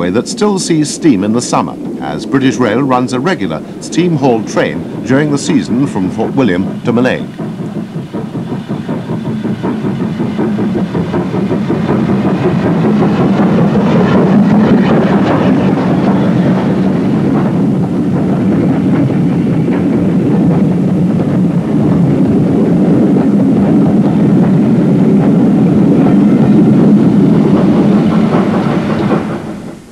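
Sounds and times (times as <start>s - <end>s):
steam train running on rails: 0.0s - 29.9s.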